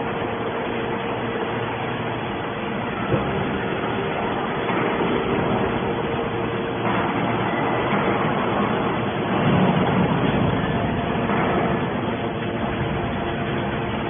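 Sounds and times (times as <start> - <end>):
scrap metal machinery running: 0.0 - 14.0.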